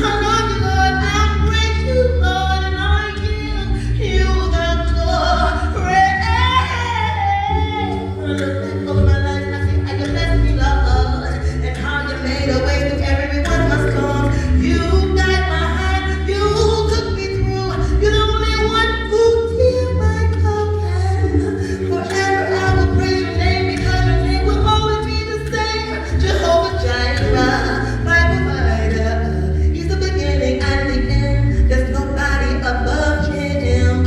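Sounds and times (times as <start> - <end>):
low bass notes: 0.0 - 34.0.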